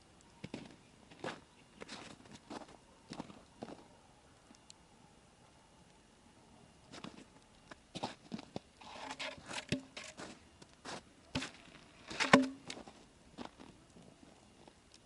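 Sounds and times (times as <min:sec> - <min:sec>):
wood fire crackling and popping: 0:00.0 - 0:04.8, 0:06.7 - 0:15.0.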